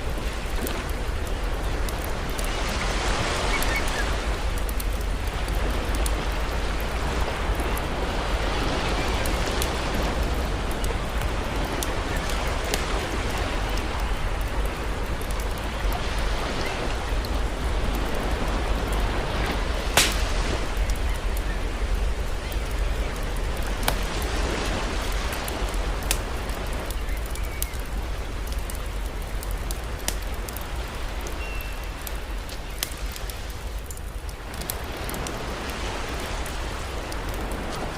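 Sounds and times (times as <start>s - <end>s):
campfire crackling and popping: 0.0s - 37.9s
sea surf: 0.0s - 37.9s.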